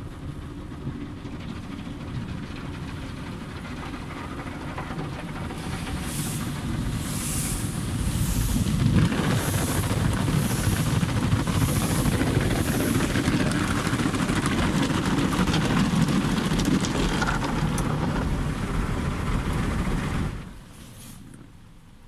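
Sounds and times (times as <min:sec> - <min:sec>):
car wash machine rushing: 0:00.0 - 0:21.5.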